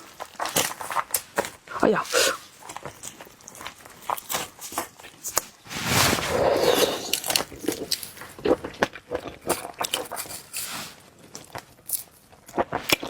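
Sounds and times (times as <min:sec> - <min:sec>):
seafood being chewed: 0:00.0 - 0:13.0.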